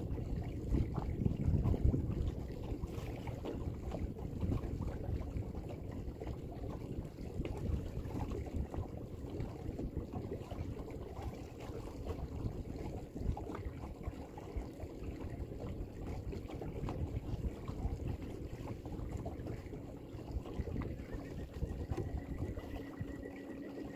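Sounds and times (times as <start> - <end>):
water lapping against boat hull: 0.0 - 23.9
wind buffeting microphone: 0.0 - 23.9.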